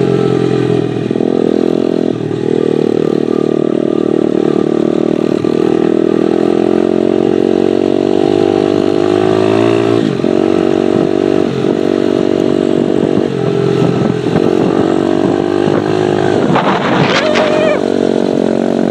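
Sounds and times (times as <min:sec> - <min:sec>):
dirtbike engine running: 0:00.0 - 0:18.9.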